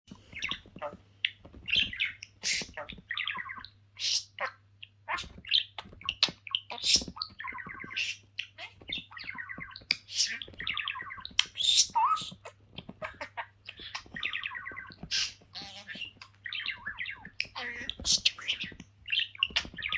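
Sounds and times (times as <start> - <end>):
pet bird chirping and chattering: 0.1 - 19.9.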